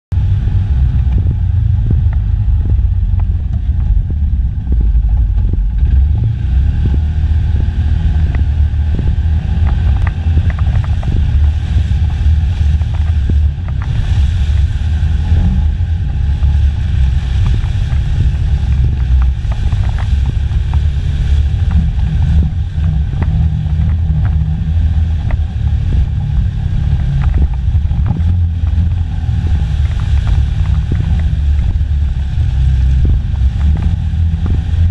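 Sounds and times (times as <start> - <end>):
engine rumbling under load: 0.0 - 34.9.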